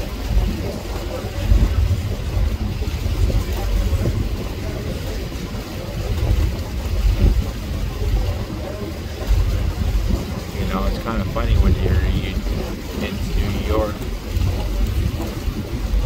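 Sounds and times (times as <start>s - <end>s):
ferry engine rumble: 0.0s - 16.0s
water: 0.0s - 16.0s
wind: 0.0s - 16.0s.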